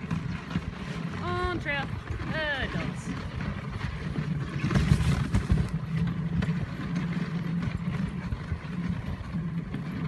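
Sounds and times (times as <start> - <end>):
sled runners scraping on snow: 0.0 - 10.0.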